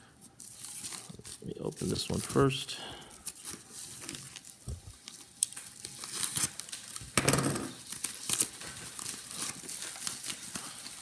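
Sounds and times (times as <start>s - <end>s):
paper mailer crinkling and tearing: 0.3s - 11.0s.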